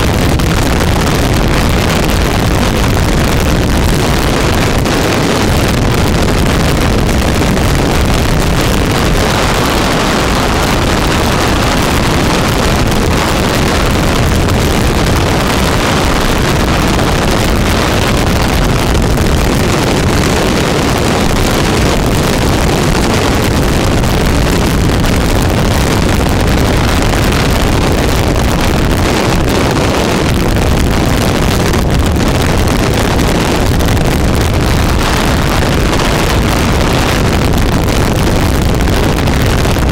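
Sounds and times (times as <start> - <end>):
boat engine: 0.0 - 39.9
hull noise: 0.0 - 39.9
wind buffeting microphone: 0.0 - 39.9.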